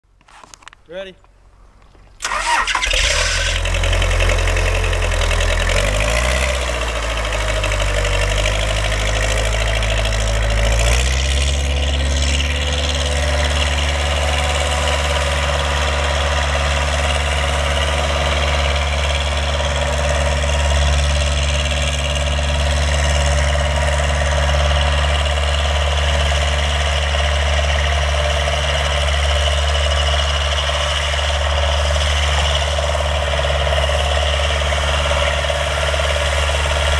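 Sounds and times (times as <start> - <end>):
backhoe engine running: 1.6 - 36.9.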